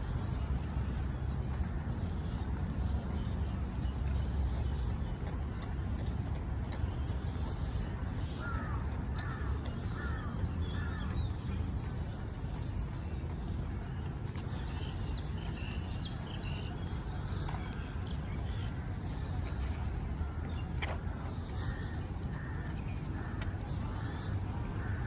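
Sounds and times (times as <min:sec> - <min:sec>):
low outdoor rumble: 0:00.0 - 0:25.0
small birds chirping: 0:00.0 - 0:25.0.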